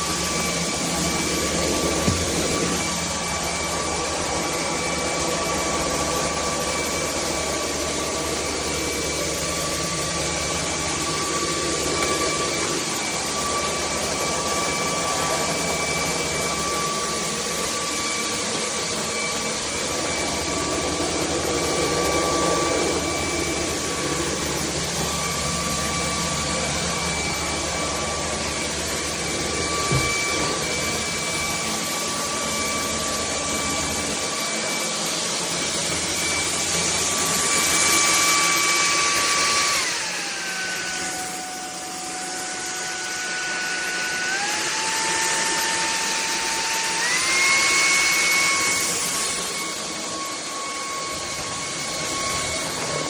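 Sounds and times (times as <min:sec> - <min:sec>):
stick vacuum running: 0:00.0 - 0:53.0.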